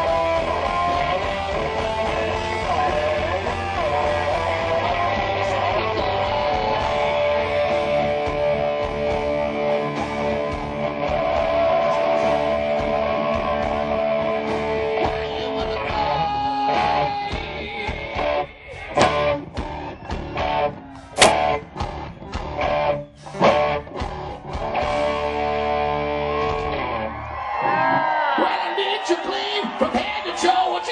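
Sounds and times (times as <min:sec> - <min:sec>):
electric guitar chords: 0:00.0 - 0:28.0
live rock band: 0:00.0 - 0:28.3.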